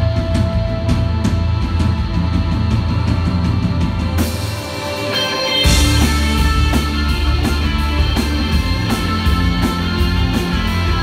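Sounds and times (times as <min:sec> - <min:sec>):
bass guitar: 0:00.0 - 0:11.0
drum kit: 0:00.0 - 0:11.0
electric guitars: 0:00.0 - 0:11.0.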